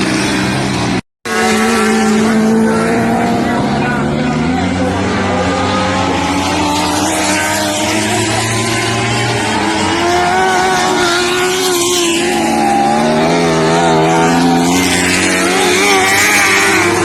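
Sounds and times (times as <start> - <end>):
racing car engines passing: 0.0 - 17.0.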